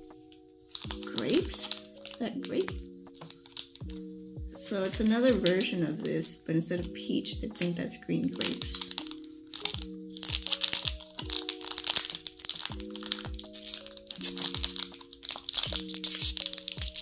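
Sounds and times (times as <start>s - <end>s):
plastic wrapper crinkling: 0.0s - 17.0s
soft background music: 0.0s - 17.0s.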